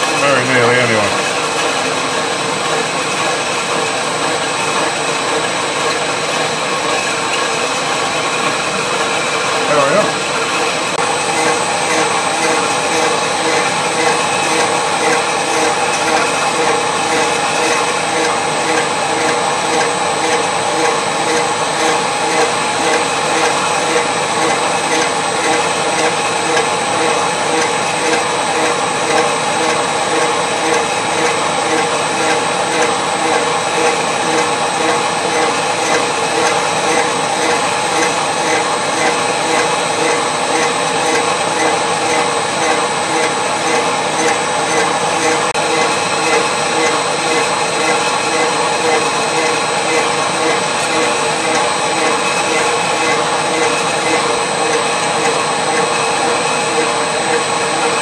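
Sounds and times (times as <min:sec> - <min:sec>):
machine tool whine and grinding: 0:00.0 - 0:58.0.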